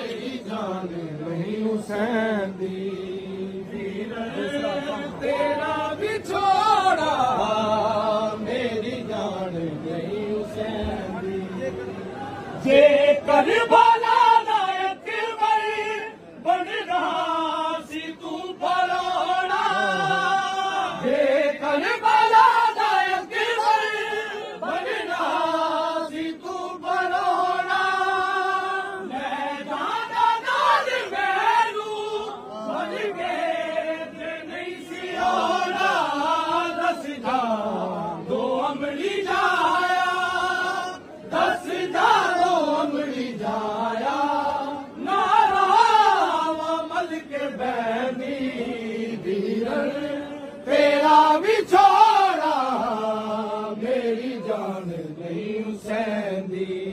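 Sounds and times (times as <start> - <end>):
men chanting a lament: 0.0 - 56.9.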